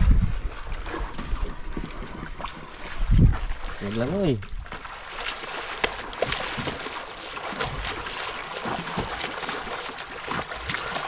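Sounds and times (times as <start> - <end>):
hiss of water and wind: 0.0 - 11.0
sea water lapping and splashing: 0.0 - 11.0.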